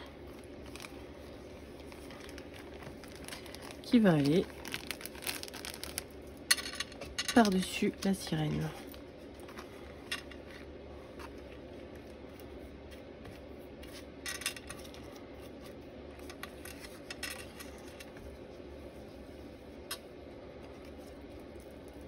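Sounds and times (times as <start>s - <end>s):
plastic bag and paper rustling: 0.0s - 19.0s
faint room hum: 0.0s - 22.0s.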